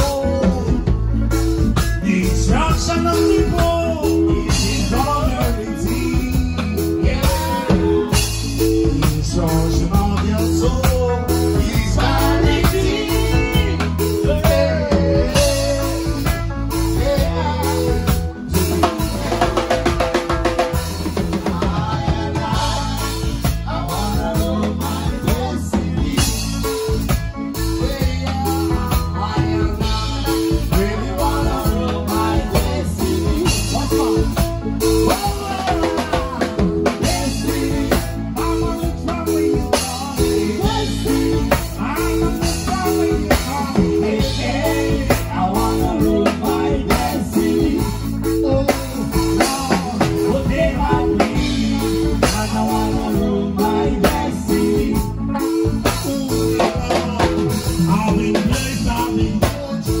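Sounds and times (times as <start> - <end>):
bass line: 0.0 - 60.0
drum kit: 0.0 - 60.0.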